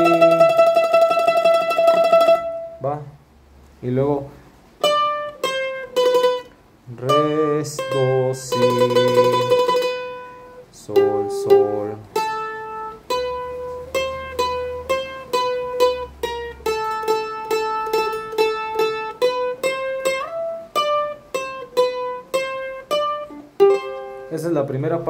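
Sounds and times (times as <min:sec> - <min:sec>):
mandolin melody: 0:00.0 - 0:25.0.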